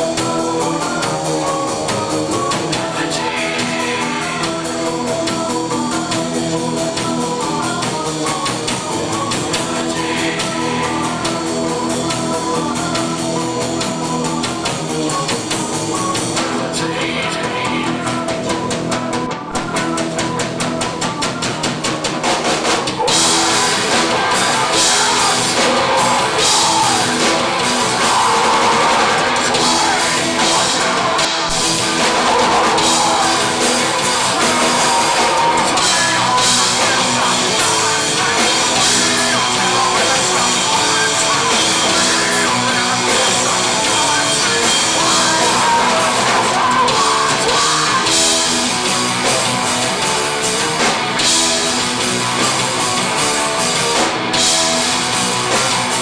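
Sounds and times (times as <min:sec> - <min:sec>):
metal band playing live: 0:00.0 - 0:56.0
sung vocals: 0:00.0 - 0:56.0.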